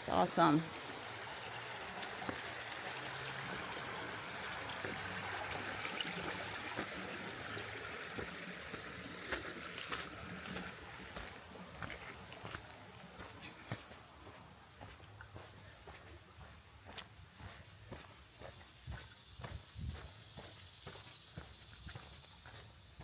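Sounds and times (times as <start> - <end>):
creek water trickling over rocks: 0.0 - 23.0.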